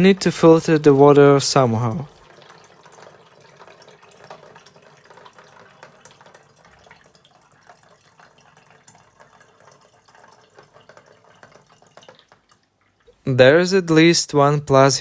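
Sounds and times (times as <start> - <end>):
water trickling and dripping: 0.0 - 15.0.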